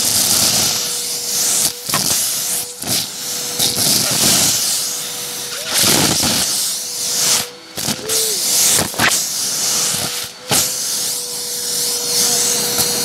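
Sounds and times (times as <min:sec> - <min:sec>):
vacuum cleaner motor whine: 0:00.0 - 0:13.0.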